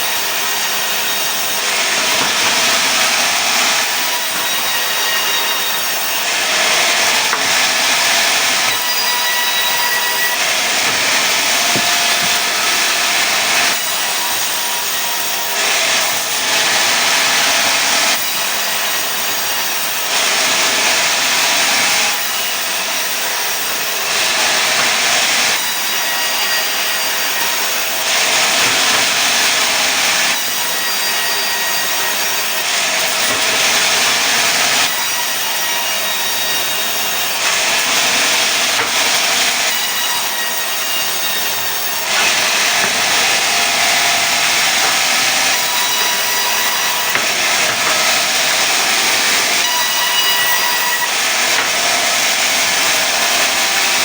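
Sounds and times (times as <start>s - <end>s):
saw cutting wood: 0.0s - 54.0s.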